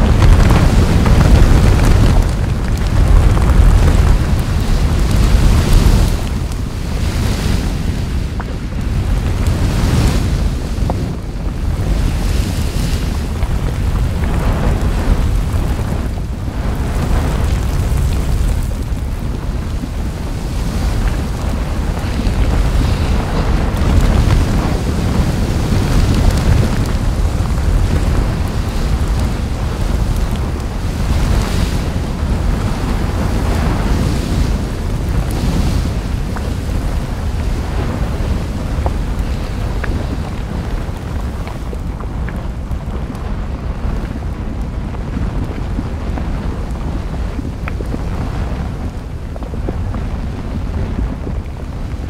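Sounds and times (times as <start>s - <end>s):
lava fountain rumbling and spattering: 0.0s - 52.0s.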